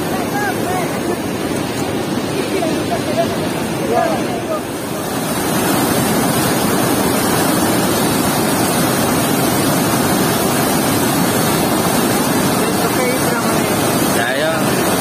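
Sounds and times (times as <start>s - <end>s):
water rushing from sluice gate: 0.0s - 15.0s.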